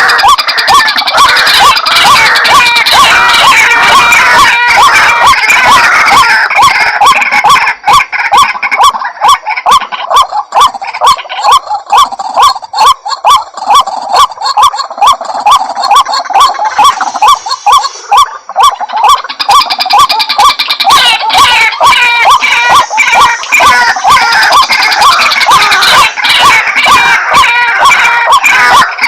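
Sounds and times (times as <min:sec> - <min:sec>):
waterhen calling: 0:00.0 - 0:29.0.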